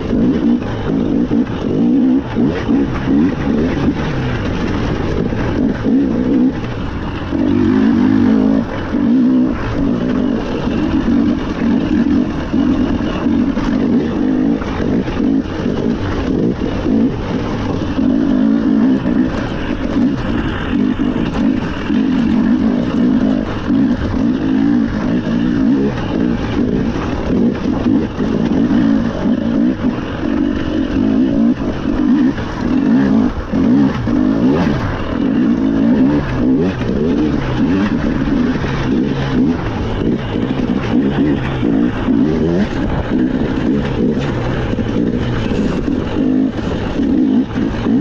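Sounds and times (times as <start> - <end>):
rally car engine under load: 0.0 - 48.0
tyre and road noise: 0.0 - 48.0.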